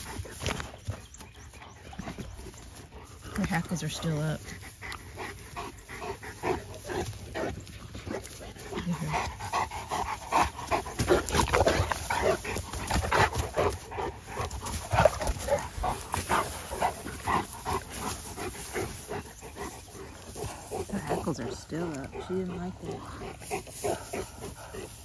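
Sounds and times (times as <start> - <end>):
dogs panting hard: 0.0 - 25.0.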